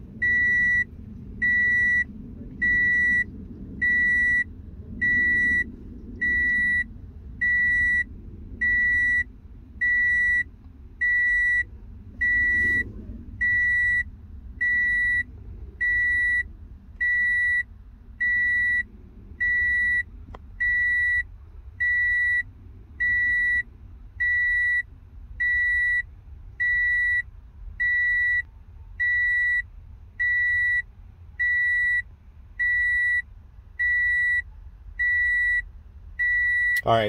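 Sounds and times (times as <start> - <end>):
car warning chime beeping: 0.2 - 12.8, 13.4 - 37.0.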